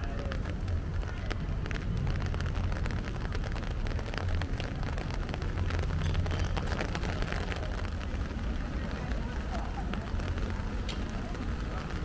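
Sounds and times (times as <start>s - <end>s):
rain pattering: 0.0s - 12.0s.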